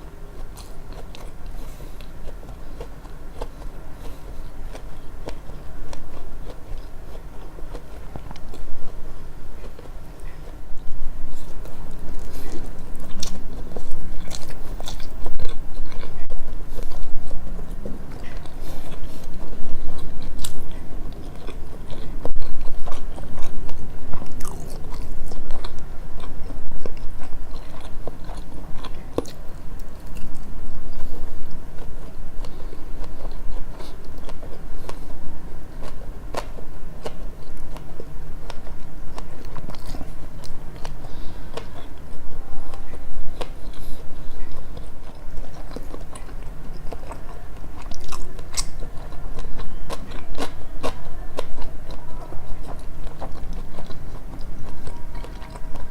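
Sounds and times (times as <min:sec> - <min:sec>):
close chewing with mouth clicks: 0:00.0 - 0:55.9
low steady hum: 0:00.0 - 0:55.9.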